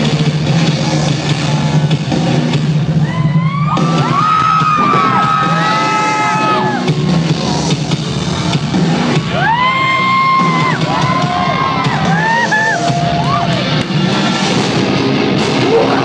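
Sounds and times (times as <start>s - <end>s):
metalcore band playing live: 0.0s - 16.0s.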